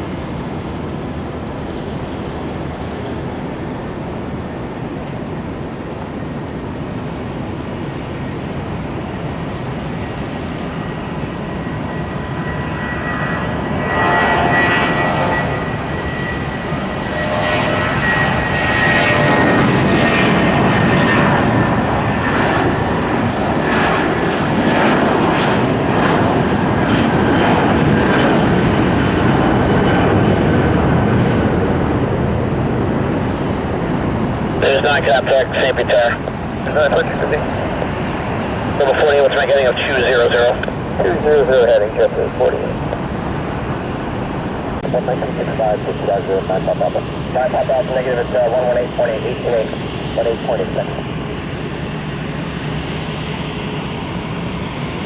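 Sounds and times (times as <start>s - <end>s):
high engine whine: 0.0s - 55.0s
jet engines roaring: 0.0s - 55.0s.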